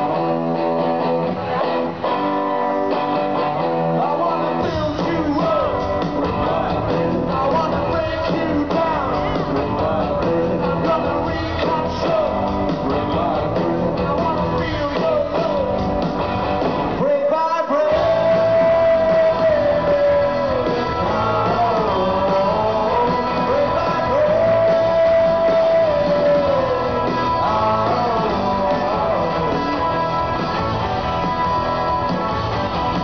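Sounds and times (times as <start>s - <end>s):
live rock band playing: 0.0s - 33.0s
man singing: 3.9s - 16.0s, 17.0s - 32.3s.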